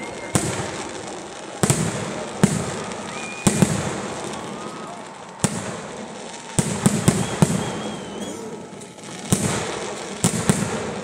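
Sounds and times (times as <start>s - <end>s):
crackling hiss of rockets: 0.0s - 11.0s
firework bangs: 0.0s - 11.0s.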